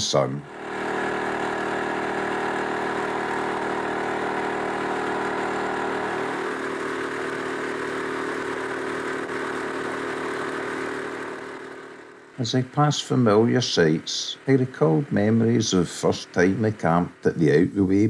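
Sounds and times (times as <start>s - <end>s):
boat engine running: 0.5s - 18.0s.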